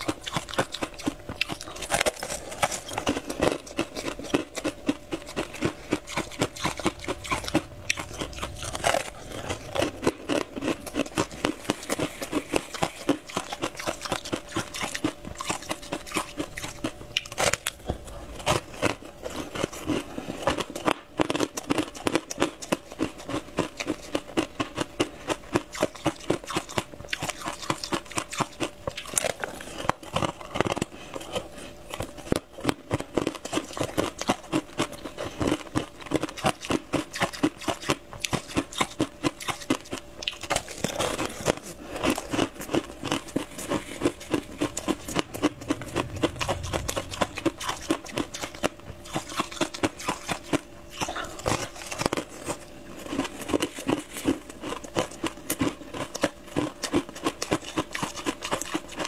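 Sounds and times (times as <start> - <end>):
crunchy pastry chewing: 0.0 - 59.0.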